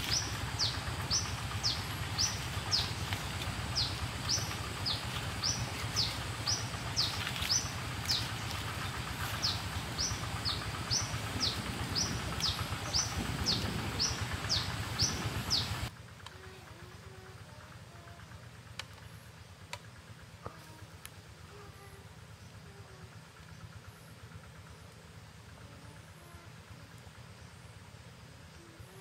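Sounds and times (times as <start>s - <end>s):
steady low background noise: 0.0s - 29.0s.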